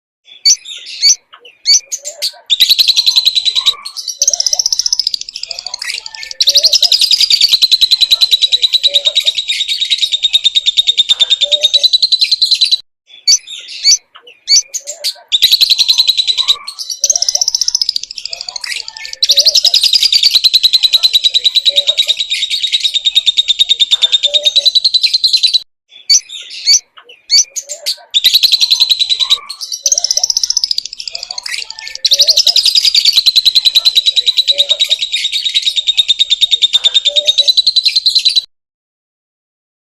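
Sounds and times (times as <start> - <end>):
lovebird chattering trills: 0.4 - 38.5.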